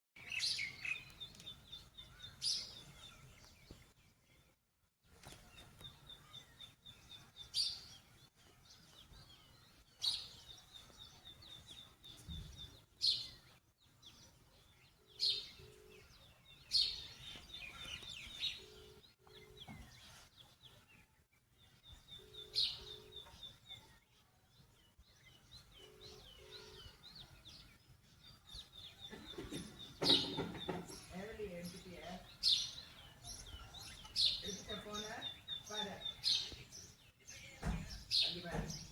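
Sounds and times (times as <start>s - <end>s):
birds chirping and singing: 0.2s - 38.9s.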